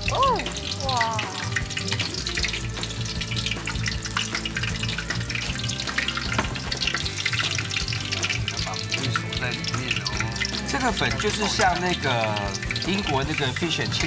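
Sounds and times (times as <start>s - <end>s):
deep-frying in hot oil: 0.0s - 14.0s.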